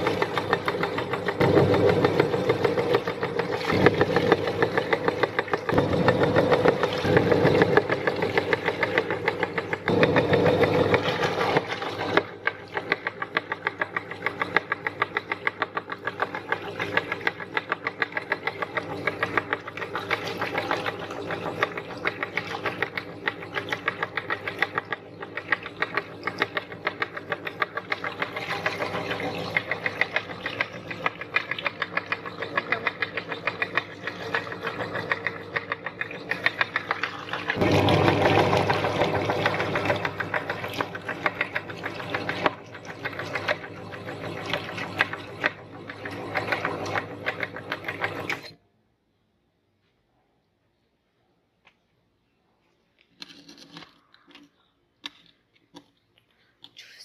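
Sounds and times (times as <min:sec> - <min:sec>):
meat grinder clicking: 0:00.0 - 0:48.6.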